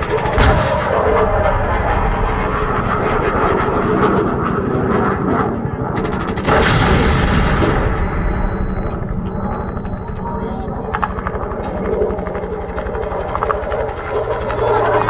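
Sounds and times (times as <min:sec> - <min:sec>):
rapid machine-gun burst: 0:00.0 - 0:04.2, 0:05.9 - 0:15.0
low rumble of heavy fire: 0:00.0 - 0:15.0.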